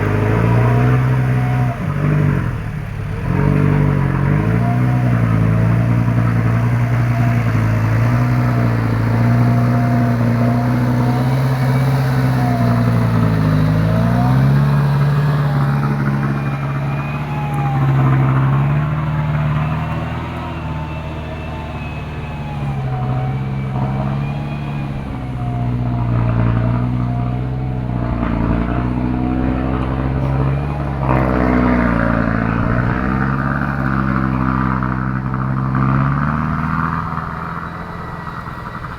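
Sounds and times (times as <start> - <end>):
truck diesel engine labouring: 0.0 - 38.9.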